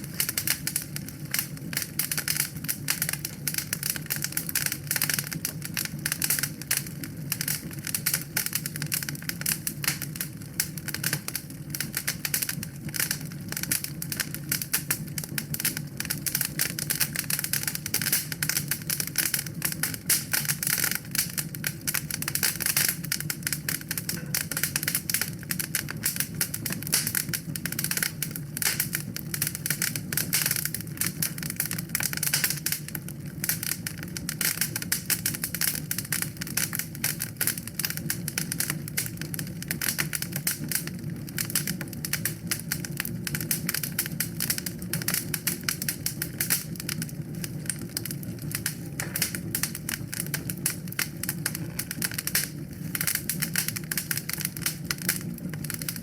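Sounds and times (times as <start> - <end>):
low rumble of flame: 0.0 - 56.0
wood fire crackling: 0.0 - 56.0.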